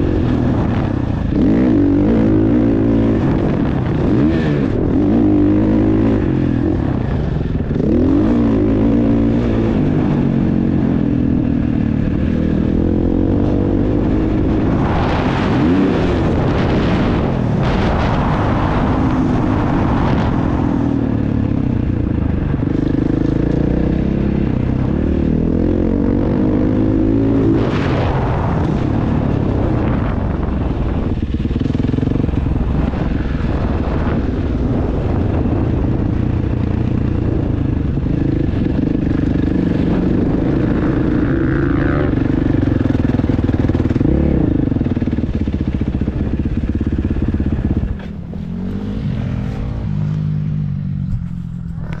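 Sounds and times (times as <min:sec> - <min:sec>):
motocross bike engine revving: 0:00.0 - 0:52.0.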